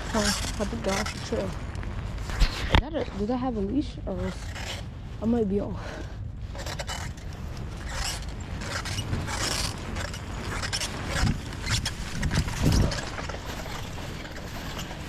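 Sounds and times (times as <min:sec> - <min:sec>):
bicycle jolts: 0:00.0 - 0:15.0
bicycle rattling and scraping: 0:00.0 - 0:15.0
bicycle tyres rumbling on trail: 0:00.0 - 0:15.0.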